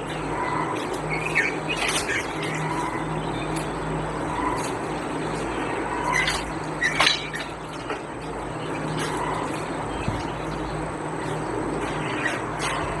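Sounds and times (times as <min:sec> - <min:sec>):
rats scrabbling: 0:00.0 - 0:13.0
steady hiss and hum: 0:00.0 - 0:13.0.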